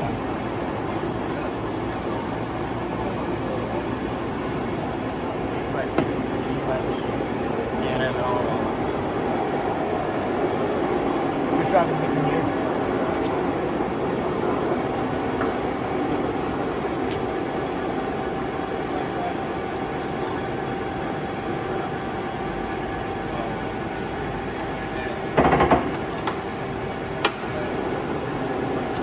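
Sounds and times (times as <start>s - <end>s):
lathe gears humming: 4.1s - 29.0s.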